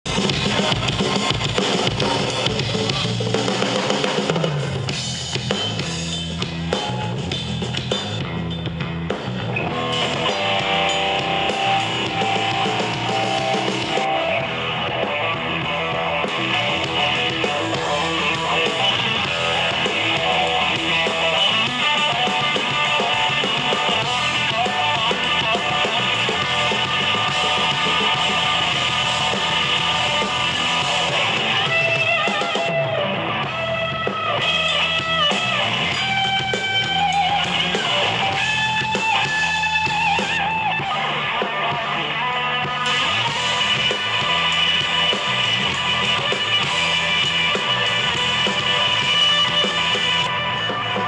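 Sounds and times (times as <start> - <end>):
electric guitar lead line: 0.0 - 51.0
live rock band playing: 0.0 - 51.0.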